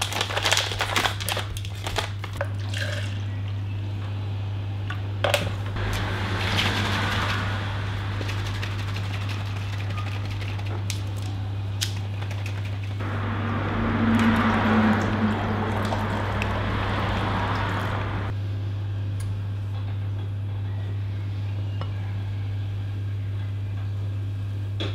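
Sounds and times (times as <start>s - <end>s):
steady low hum: 1.2s - 24.9s.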